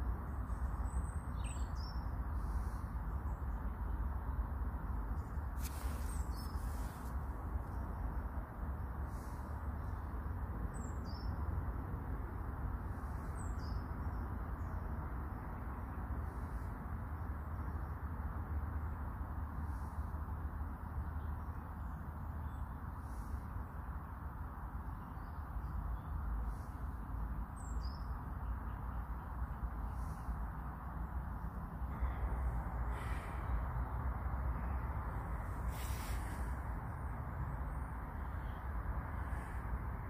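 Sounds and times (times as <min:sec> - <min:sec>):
low rumble and hiss: 0:00.0 - 0:40.0.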